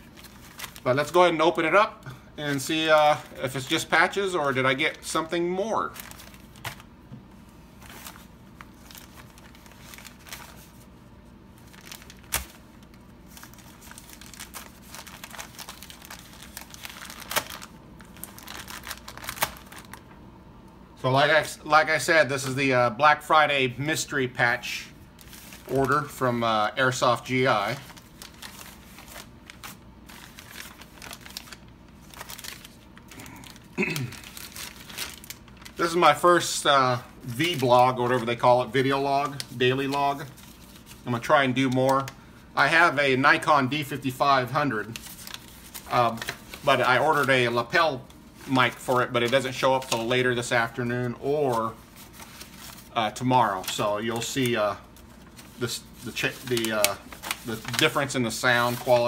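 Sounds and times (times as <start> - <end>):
plastic envelope crinkling: 0.0 - 20.2, 24.3 - 59.0.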